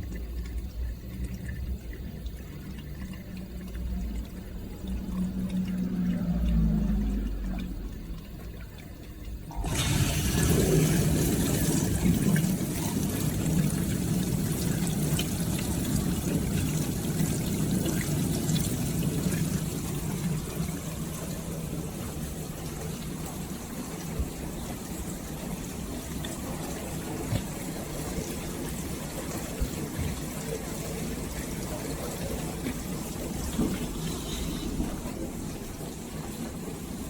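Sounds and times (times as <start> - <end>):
dishwasher hum: 0.0 - 37.0
water rushing and splashing: 3.0 - 8.6, 9.5 - 37.0.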